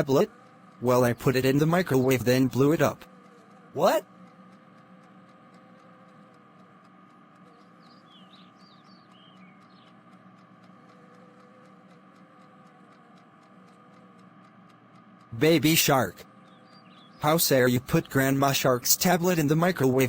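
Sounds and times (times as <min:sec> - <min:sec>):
faint background hum: 0:00.0 - 0:20.0.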